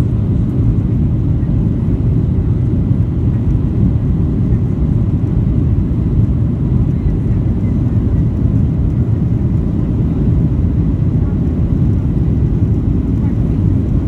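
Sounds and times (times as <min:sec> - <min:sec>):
jet engines rumbling in cabin: 0:00.0 - 0:14.0.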